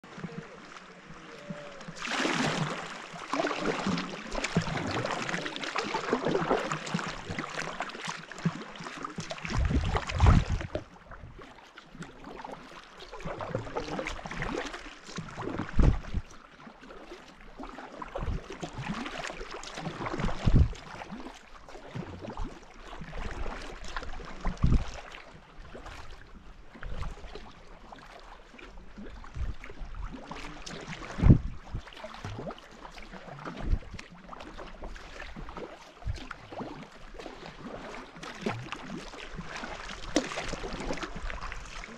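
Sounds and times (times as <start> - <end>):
paddle strokes splashing water: 0.0 - 41.9
rush of water and wind: 0.0 - 41.9.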